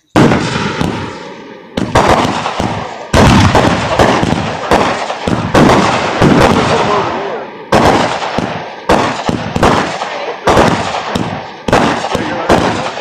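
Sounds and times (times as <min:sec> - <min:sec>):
fireworks bangs: 0:00.0 - 0:13.0
fireworks crackle: 0:00.0 - 0:13.0.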